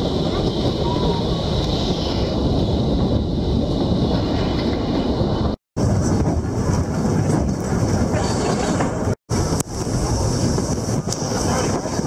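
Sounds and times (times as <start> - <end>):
train carriages rumbling on rails: 0.0 - 12.0.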